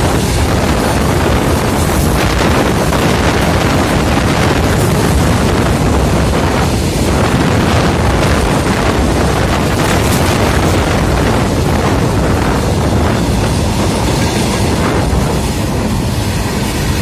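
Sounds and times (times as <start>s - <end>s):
freight train wagons rumbling past: 0.0s - 17.0s
low buffeting: 0.0s - 17.0s.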